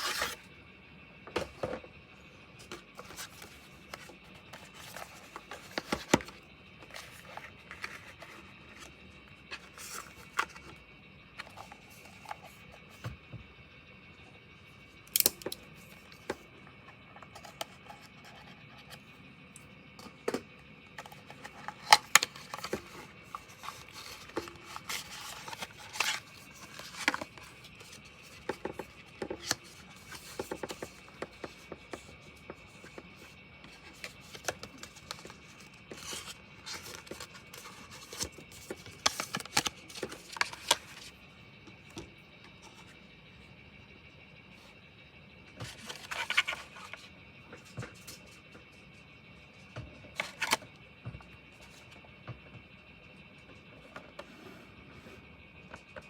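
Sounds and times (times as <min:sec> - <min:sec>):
faint high whine: 0:00.0 - 0:56.0.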